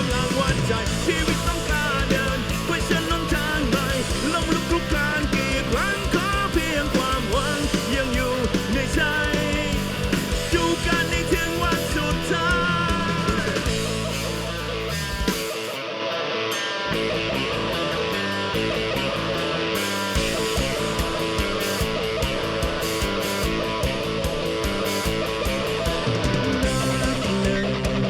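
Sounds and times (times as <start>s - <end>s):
bass guitar: 0.0s - 28.0s
drums: 0.0s - 28.0s
electric guitar: 0.0s - 28.0s.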